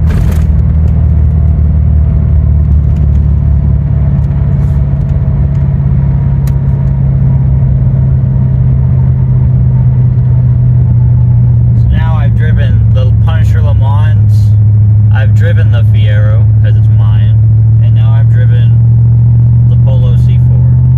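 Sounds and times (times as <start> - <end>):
car engine and exhaust drone: 0.0 - 20.9.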